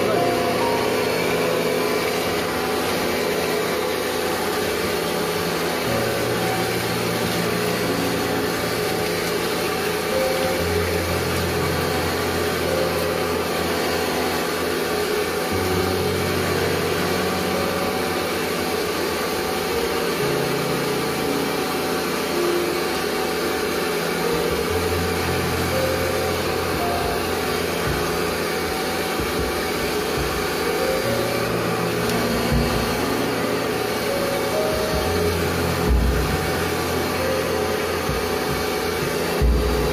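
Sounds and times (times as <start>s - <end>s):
low background music: 0.0s - 39.9s
steady machine noise: 0.0s - 39.9s.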